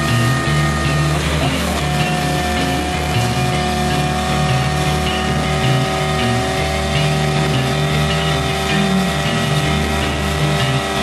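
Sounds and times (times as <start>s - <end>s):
background music with bass line: 0.0s - 11.0s
motorcycle engine cruising: 0.0s - 11.0s.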